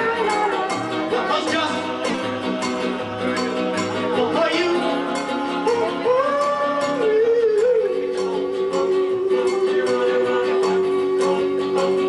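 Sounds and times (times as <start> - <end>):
person singing long notes: 0.0 - 12.0
song with steady beat: 0.0 - 12.0.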